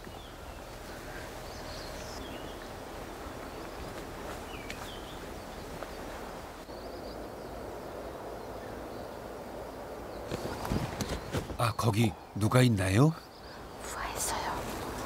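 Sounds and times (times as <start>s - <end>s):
wind through leaves: 0.0s - 15.0s.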